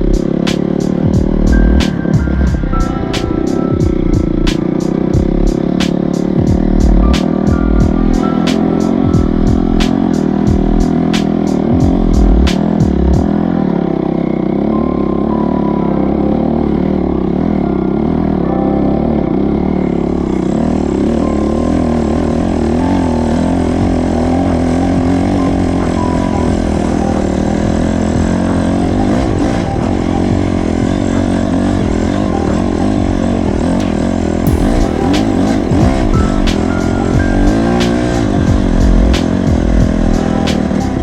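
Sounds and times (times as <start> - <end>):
dirt bike engine revving: 0.0 - 2.6, 3.9 - 13.4, 20.2 - 41.0.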